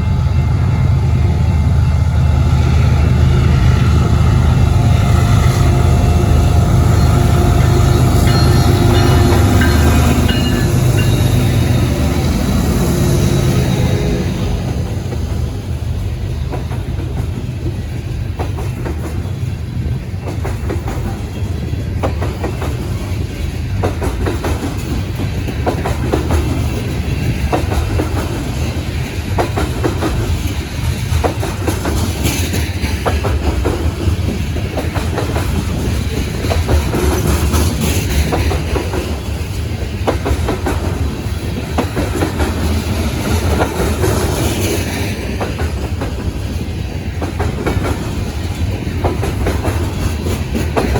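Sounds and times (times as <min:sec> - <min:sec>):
train cars rumbling past: 0:00.0 - 0:50.9
wheels clacking over rail joints: 0:03.8 - 0:50.9.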